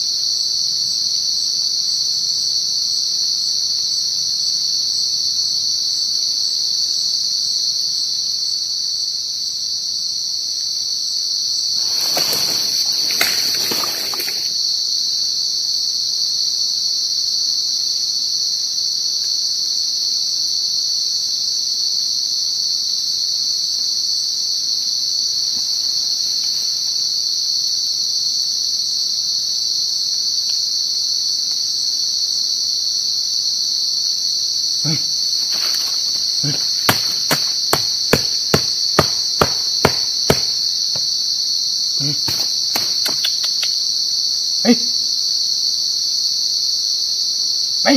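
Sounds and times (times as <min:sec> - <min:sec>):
night insects droning: 0:00.0 - 0:47.9.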